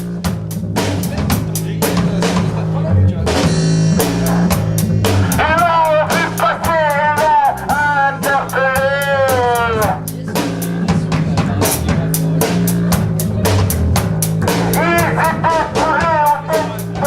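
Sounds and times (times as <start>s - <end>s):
bass line: 0.0s - 17.0s
drum kit beat: 0.0s - 17.0s.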